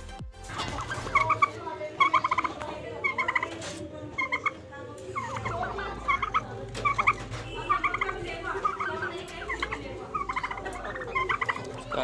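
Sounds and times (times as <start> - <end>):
fowl chirping calls: 0.5 - 12.0.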